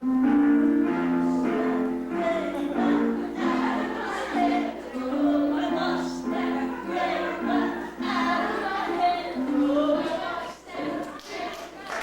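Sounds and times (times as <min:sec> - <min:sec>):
group of voices singing: 0:01.3 - 0:12.0.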